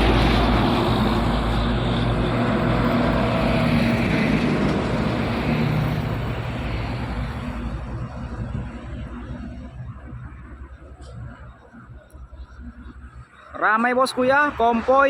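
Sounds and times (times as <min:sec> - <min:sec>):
diesel trucks driving past: 0:00.0 - 0:15.0.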